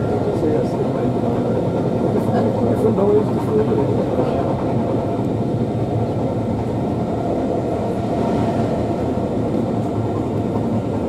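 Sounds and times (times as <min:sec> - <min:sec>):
train carriage rumble: 0:00.0 - 0:11.0.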